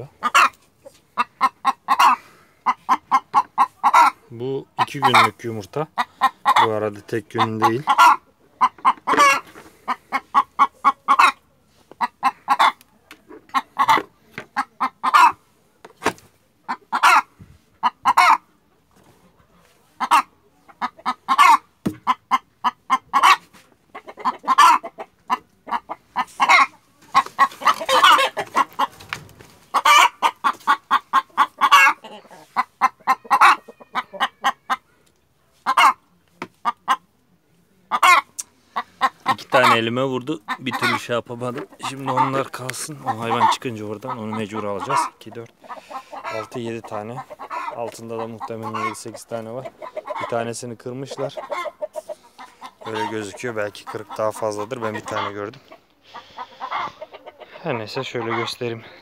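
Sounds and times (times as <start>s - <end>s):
hen clucking: 0.0s - 37.2s, 37.8s - 59.0s.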